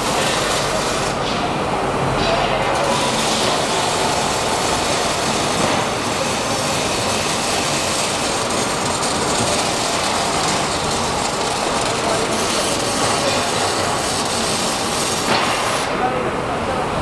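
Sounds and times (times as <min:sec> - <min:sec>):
welding arc hissing: 0:00.0 - 0:01.3, 0:02.2 - 0:15.9.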